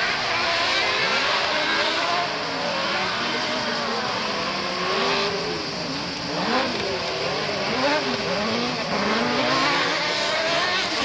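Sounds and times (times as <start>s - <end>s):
buggy engines revving: 0.0s - 11.0s.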